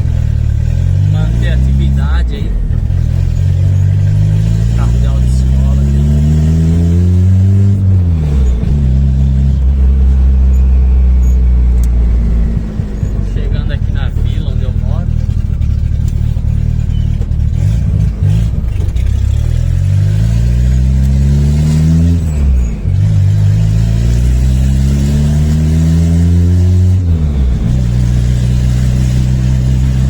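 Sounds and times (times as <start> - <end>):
car engine revving through gears: 0.0 - 30.0.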